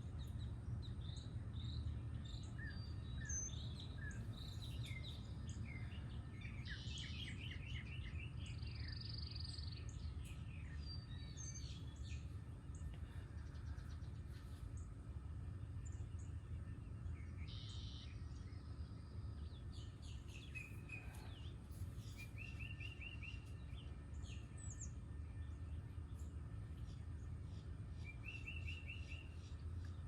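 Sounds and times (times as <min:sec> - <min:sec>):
wild birds singing: 0:00.0 - 0:30.0.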